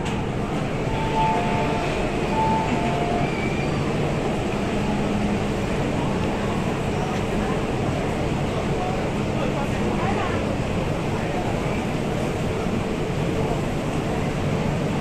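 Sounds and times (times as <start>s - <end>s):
train and station noise: 0.0s - 15.0s.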